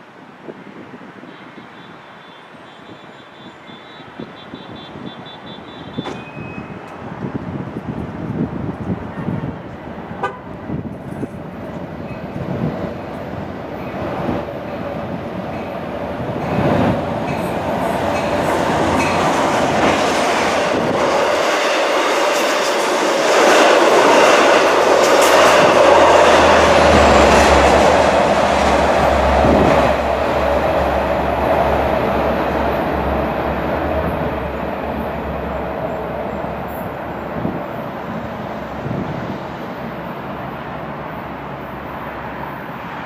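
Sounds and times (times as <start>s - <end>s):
train running noise: 0.0s - 43.0s
steady train tone: 1.2s - 43.0s.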